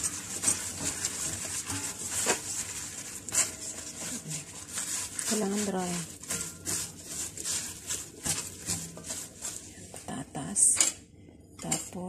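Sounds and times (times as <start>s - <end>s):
hands rustling potato cubes: 0.0s - 9.9s.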